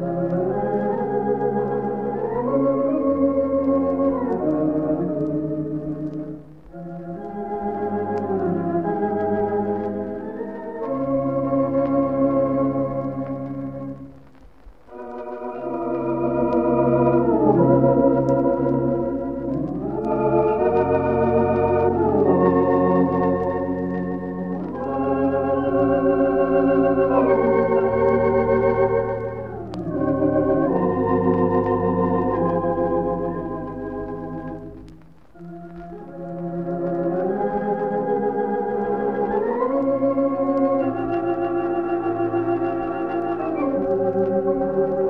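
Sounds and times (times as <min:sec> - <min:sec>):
pipe organ playing slow ballad: 0:00.0 - 0:14.1, 0:14.9 - 0:45.0.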